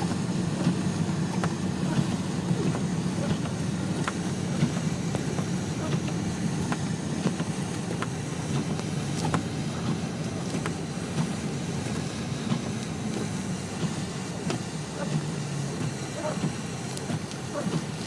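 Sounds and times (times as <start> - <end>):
car engine and road noise: 0.0 - 18.0
light ticks: 0.1 - 15.3.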